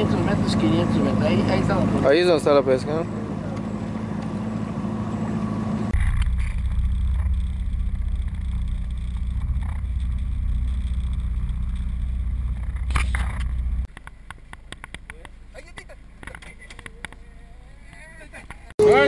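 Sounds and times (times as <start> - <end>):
outboard motor running: 0.0 - 17.9.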